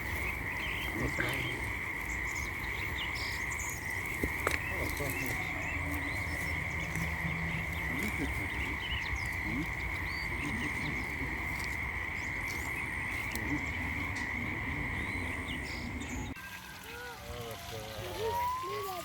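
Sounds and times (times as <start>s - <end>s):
frogs calling in chorus: 0.0s - 19.0s.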